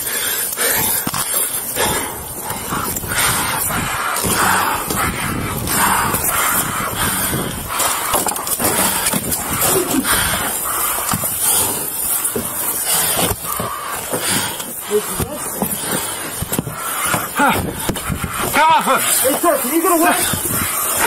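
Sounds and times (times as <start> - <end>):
rustling and clatter: 0.0 - 21.0.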